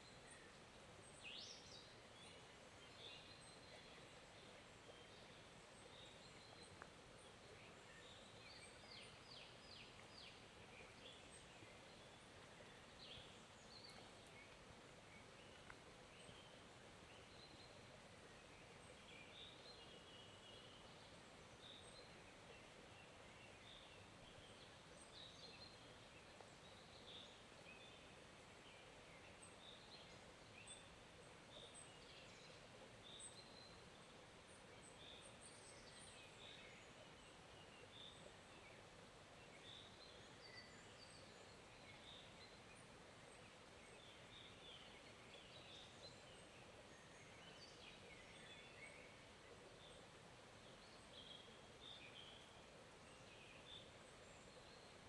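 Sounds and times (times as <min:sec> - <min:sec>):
small stream flowing: 0:00.0 - 0:55.0.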